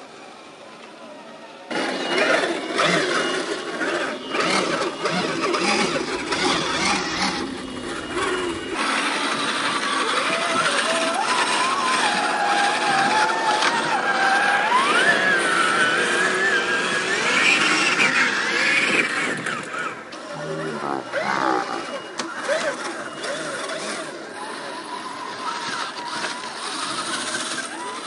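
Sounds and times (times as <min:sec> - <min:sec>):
electric motor whining: 0:01.7 - 0:28.0.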